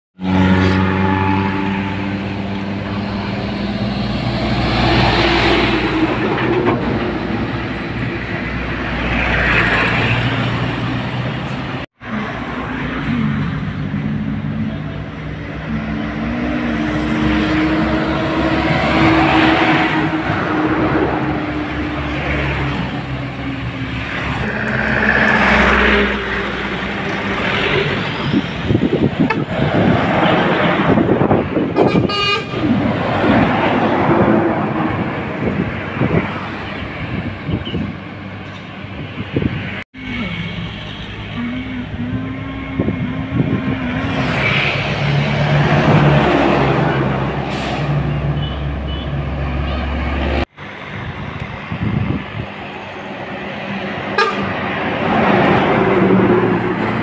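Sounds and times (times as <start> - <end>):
trucks passing by: 0.2 - 57.0.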